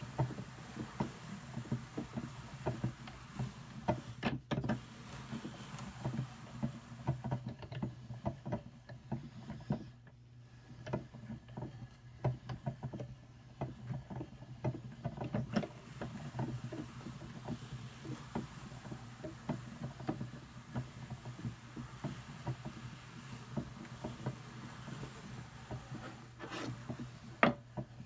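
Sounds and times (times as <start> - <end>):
drum carder combing wool: 0.0 - 28.0.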